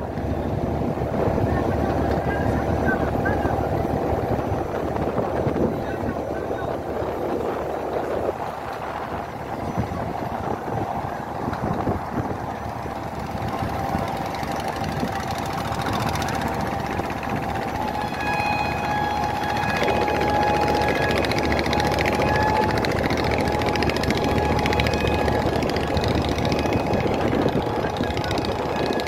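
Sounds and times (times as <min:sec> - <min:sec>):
boat engine running: 0:00.0 - 0:29.0
thin whine: 0:01.5 - 0:29.0.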